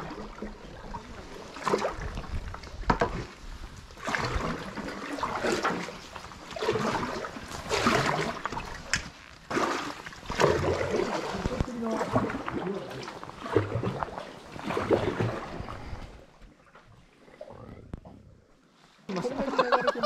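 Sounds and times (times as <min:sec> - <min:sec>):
water splashing and dripping: 0:00.0 - 0:16.9
kayak paddle swishing in water: 0:00.0 - 0:17.5.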